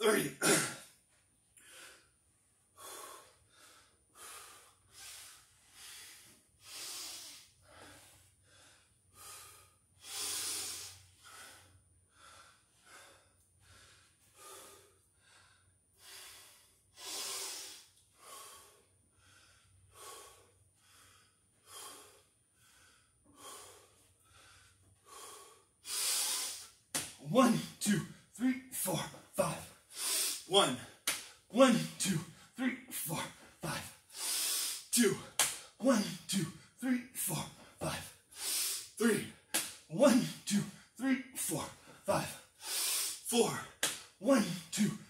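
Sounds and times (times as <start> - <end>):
man breathing hard: 1.6 - 45.0.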